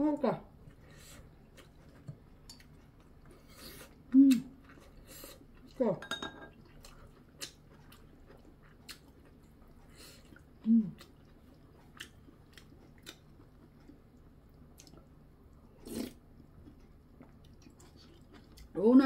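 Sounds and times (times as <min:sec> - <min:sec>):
soft chewing: 0:00.4 - 0:19.0.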